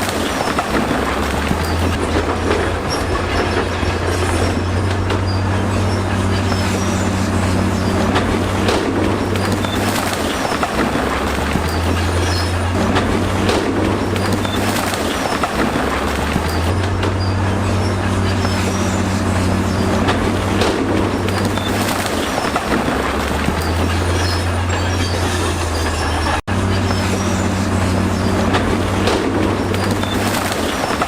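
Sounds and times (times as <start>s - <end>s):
bulldozer diesel engine running: 0.0s - 31.0s
steel tracks clanking and squealing: 0.0s - 31.0s.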